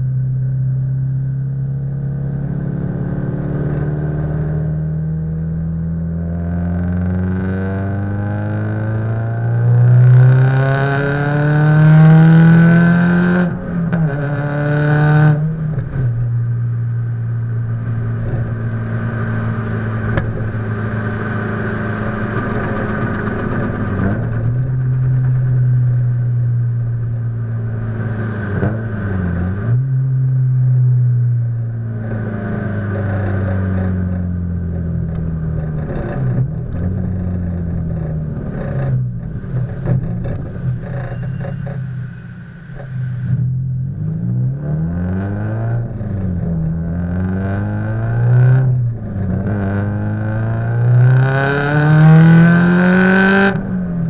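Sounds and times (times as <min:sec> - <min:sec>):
turbocharged car engine revving: 0:01.7 - 0:16.2, 0:17.8 - 0:54.0.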